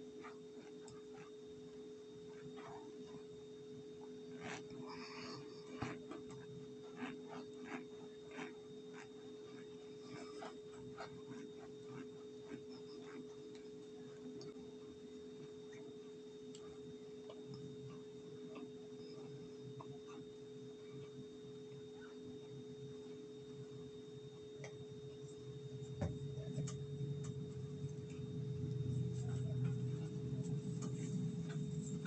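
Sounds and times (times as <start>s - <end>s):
steady hum of fixed tones: 0.0s - 32.0s.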